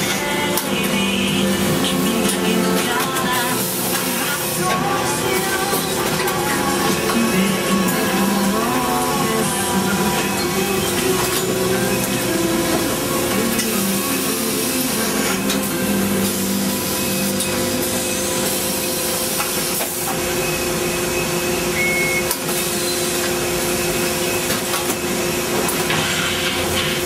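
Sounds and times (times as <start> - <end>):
laundry machinery hum and hiss: 0.0 - 27.0.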